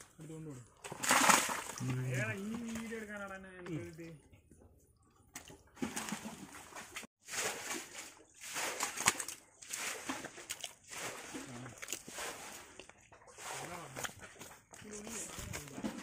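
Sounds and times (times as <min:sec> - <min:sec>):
mud squelching and water sloshing: 0:00.0 - 0:16.0.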